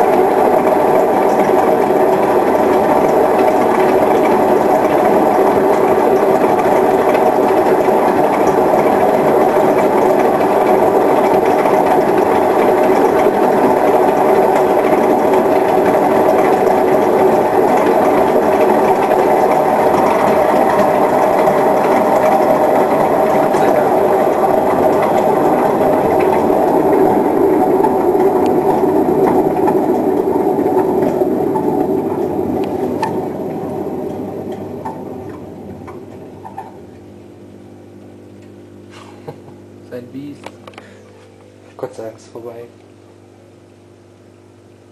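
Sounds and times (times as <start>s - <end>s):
washing machine drum spinning: 0.0s - 41.0s.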